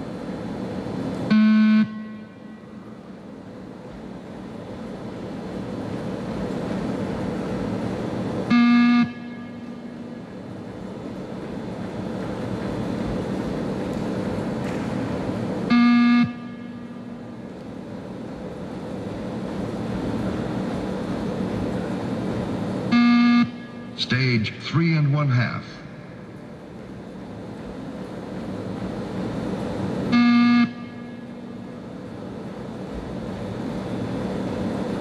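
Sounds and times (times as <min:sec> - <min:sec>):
room noise hum and hiss: 0:00.0 - 0:35.0.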